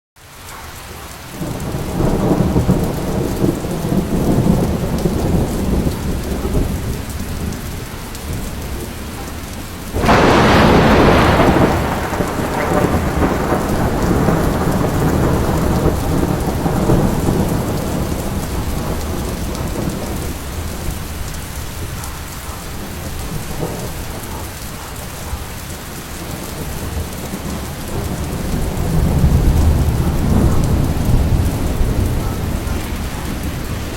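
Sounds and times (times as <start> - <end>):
steady rain: 0.2 - 33.9
rolling thunder: 1.3 - 33.9
sharp thunderclap: 1.4 - 7.7, 9.9 - 22.1, 22.7 - 25.4, 26.2 - 33.9.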